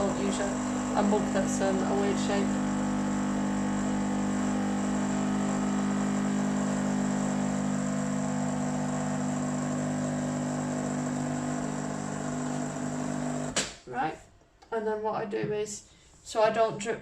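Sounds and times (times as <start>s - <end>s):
coffee maker pump humming: 0.0s - 13.6s.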